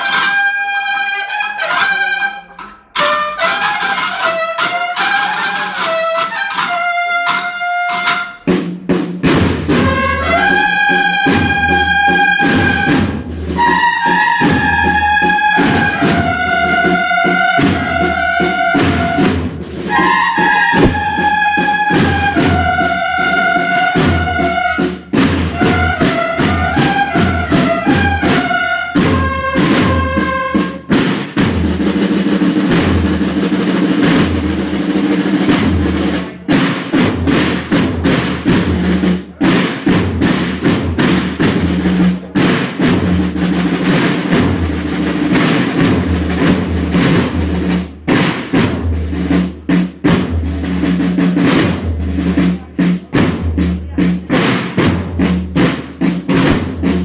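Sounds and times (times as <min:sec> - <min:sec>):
brass band playing a march: 0:00.0 - 0:57.0
steady drumming: 0:00.0 - 0:57.0.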